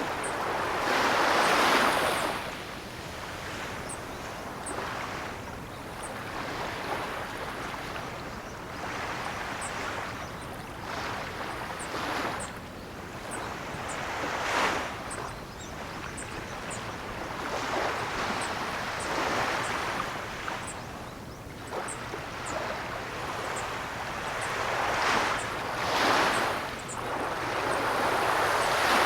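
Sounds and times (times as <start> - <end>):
ocean waves breaking: 0.0 - 5.4, 8.8 - 29.0.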